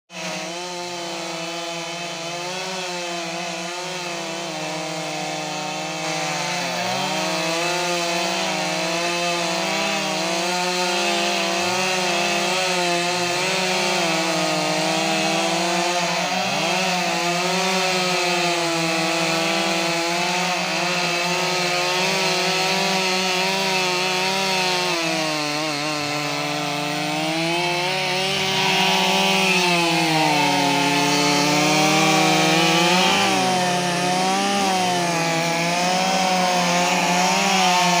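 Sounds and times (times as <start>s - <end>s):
chainsaw cutting wood: 0.1s - 38.0s.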